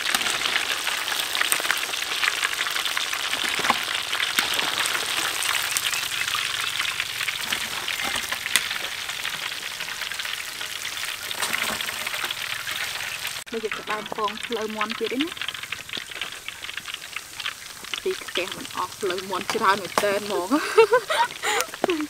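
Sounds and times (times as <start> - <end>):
hot oil sizzling and popping: 0.0 - 22.0.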